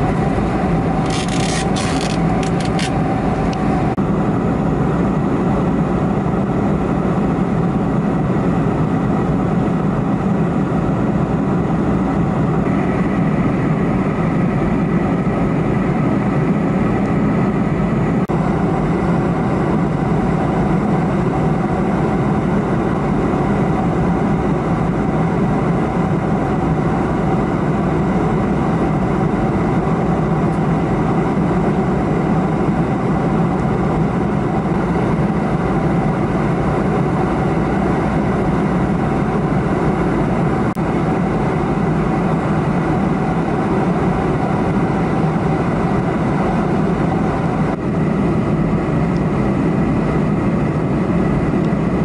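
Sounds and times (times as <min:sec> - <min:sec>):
airplane cabin airflow and engine drone: 0:00.0 - 0:52.0.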